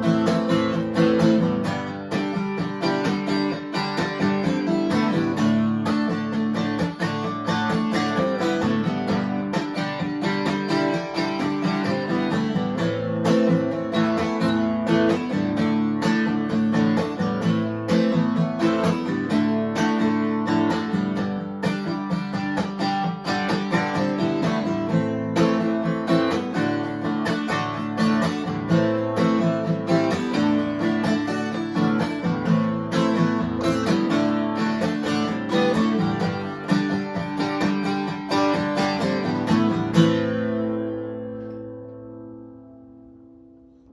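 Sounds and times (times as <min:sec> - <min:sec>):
acoustic guitar music: 0:00.0 - 0:43.9.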